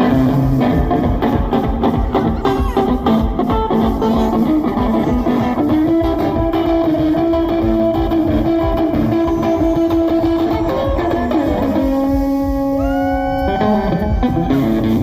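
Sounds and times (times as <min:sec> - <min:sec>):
live boogie band: 0:00.0 - 0:15.0.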